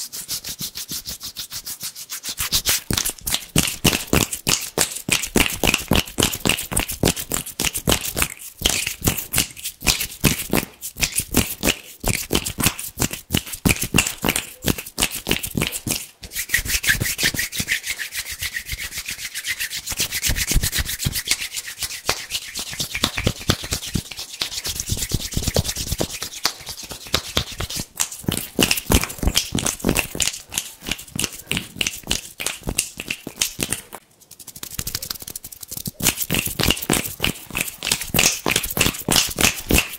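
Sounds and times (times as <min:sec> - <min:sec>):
hands rubbing together: 0:00.0 - 0:39.9.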